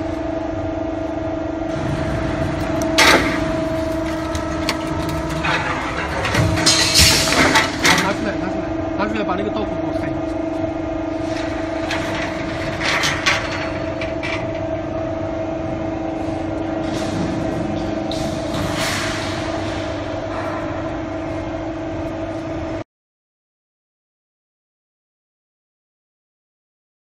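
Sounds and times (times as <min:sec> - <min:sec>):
hydraulic shearing machine humming: 0:00.0 - 0:22.8.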